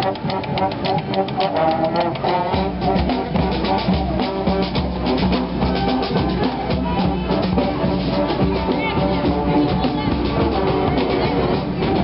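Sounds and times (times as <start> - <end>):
bass drum: 0.0 - 12.0
brass horns holding notes: 0.0 - 12.0
snare drum beat: 0.0 - 12.0.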